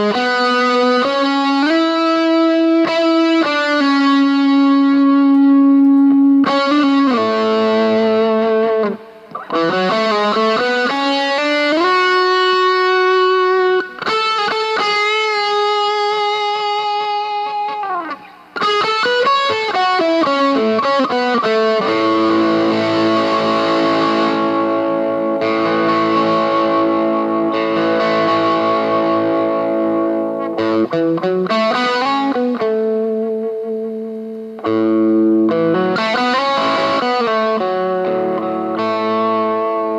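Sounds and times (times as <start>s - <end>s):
electric guitar lead: 0.0s - 39.9s.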